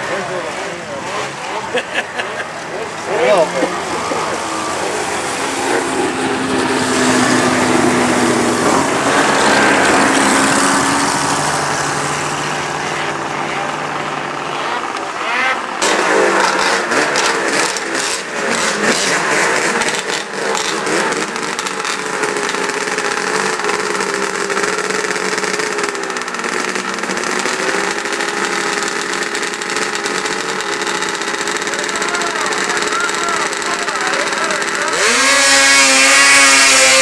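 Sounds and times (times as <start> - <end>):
snowmobile engines idling and revving: 0.0 - 37.0.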